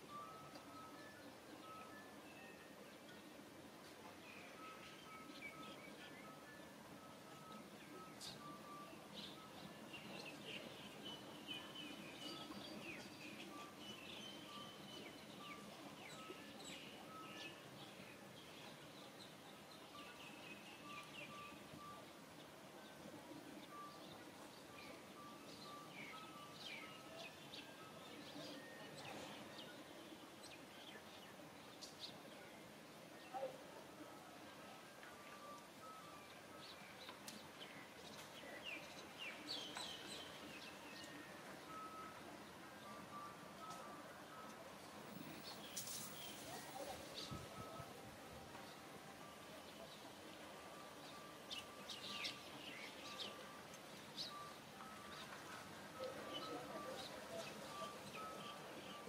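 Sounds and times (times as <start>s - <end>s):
birds chirping: 4.1s - 34.2s, 35.1s - 44.5s, 45.1s - 59.0s.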